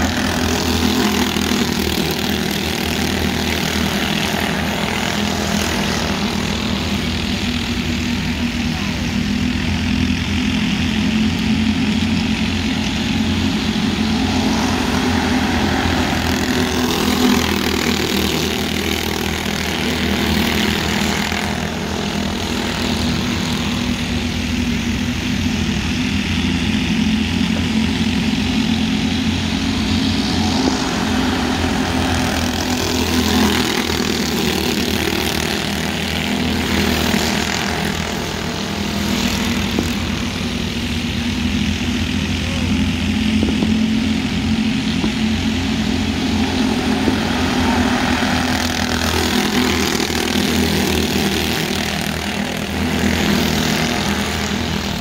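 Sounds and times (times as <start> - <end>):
race car engines buzzing: 0.0 - 55.0.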